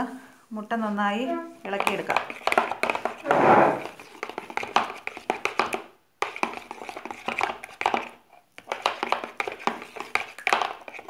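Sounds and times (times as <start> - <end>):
spoon beating eggs in bowl: 1.5 - 11.0.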